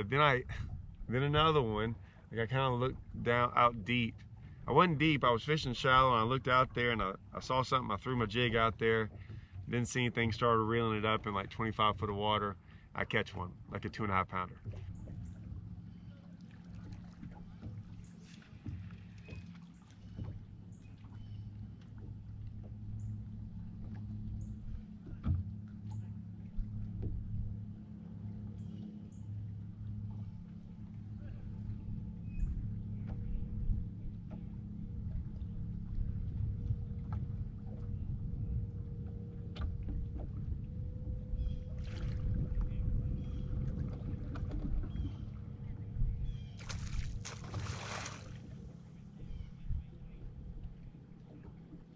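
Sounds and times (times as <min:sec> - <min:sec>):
steady low hum: 0:00.0 - 0:51.9
water lapping at hull: 0:00.0 - 0:51.9.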